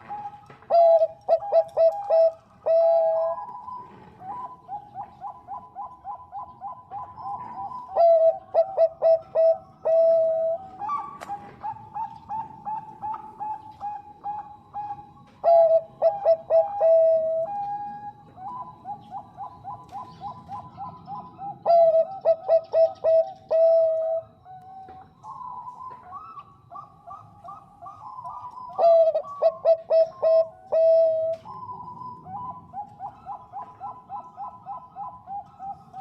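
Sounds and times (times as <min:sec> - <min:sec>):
dove cooing: 0:00.0 - 0:36.0.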